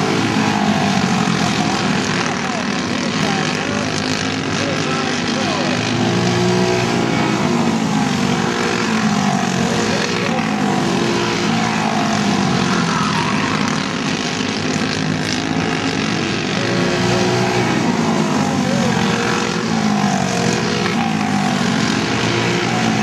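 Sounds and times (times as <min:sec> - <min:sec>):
kart engines racing: 0:00.0 - 0:23.0.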